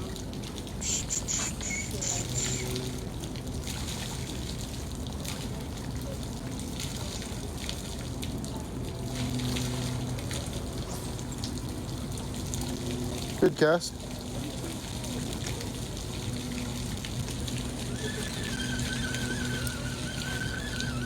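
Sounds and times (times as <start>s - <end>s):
flowing creek water: 0.0s - 21.0s.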